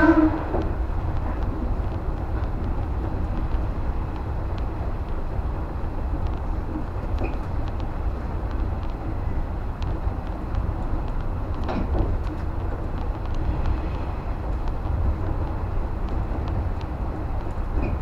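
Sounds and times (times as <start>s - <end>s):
train rumbling along track: 0.0s - 18.0s
faint clicks: 0.4s - 18.0s.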